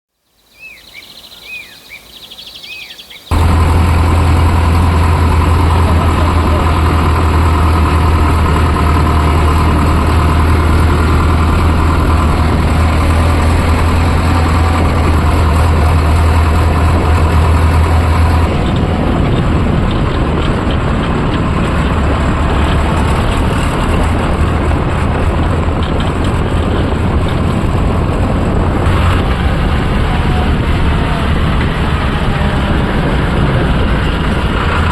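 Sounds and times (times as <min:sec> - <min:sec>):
tractor diesel engine droning: 0:03.3 - 0:34.9.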